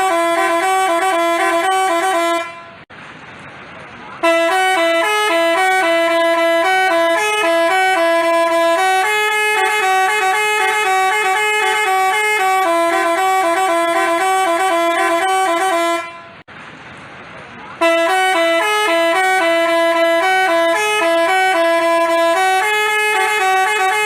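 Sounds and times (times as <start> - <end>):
musical bus horn playing a tune: 0.0 - 2.9, 4.2 - 16.5, 17.8 - 24.0.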